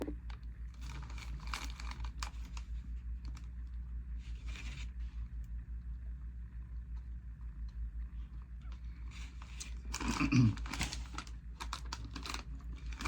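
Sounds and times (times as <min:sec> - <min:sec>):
steady low hum: 0:00.0 - 0:13.0
rustling and crinkling: 0:00.2 - 0:05.6, 0:06.8 - 0:13.0.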